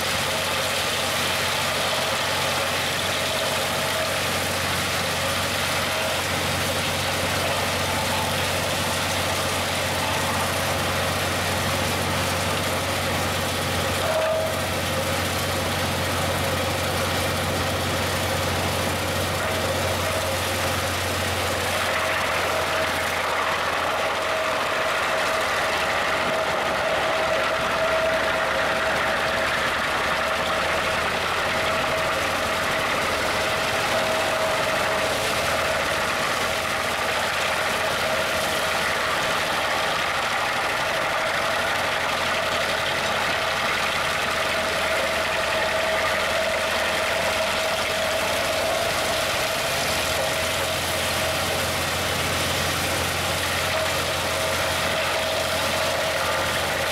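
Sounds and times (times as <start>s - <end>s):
constant whine: 0.0s - 56.9s
wood chipper chewing wood: 0.0s - 56.9s.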